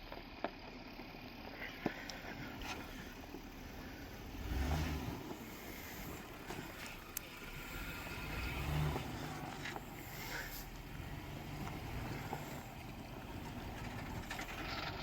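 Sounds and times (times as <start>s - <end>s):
off-road vehicle engine revving: 1.6s - 15.0s.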